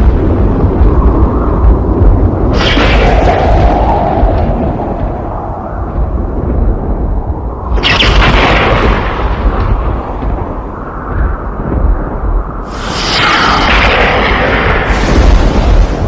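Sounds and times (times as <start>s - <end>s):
thunder rumbling: 0.0s - 16.0s
sharp thunderclap crack: 2.2s - 7.1s, 7.7s - 16.0s.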